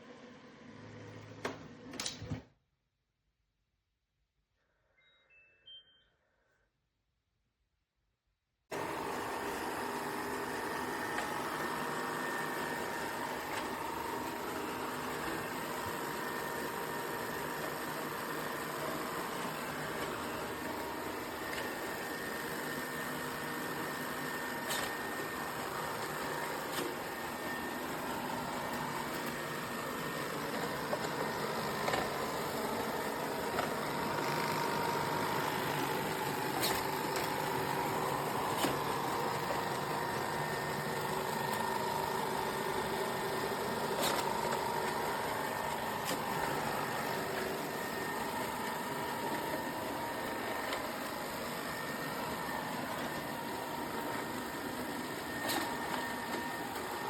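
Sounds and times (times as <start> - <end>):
robot vacuum motor hum: 8.7 - 57.0.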